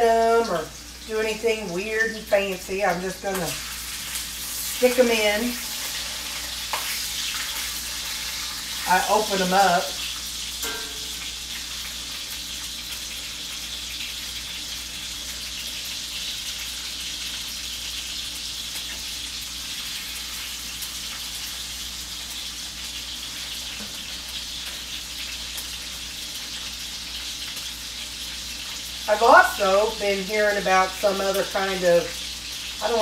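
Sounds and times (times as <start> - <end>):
chicken sizzling in a skillet: 0.0 - 33.0.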